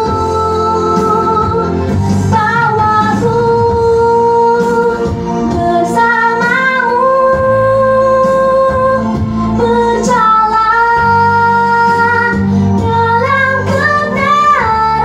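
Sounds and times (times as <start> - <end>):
girl singing into a microphone: 0.0 - 15.0
instrumental accompaniment: 0.0 - 15.0.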